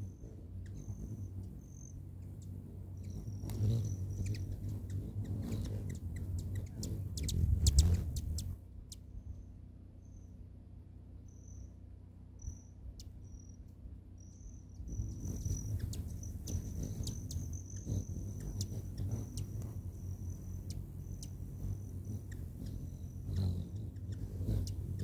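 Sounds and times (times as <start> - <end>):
hummingbird wing hum: 0.0 - 10.3, 14.2 - 25.0.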